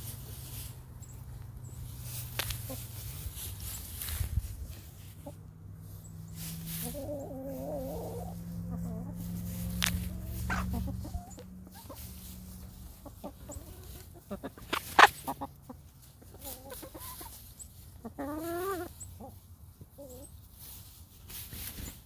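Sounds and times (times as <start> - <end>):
hens clucking: 0.0 - 22.0
scratching in hay: 0.0 - 22.0.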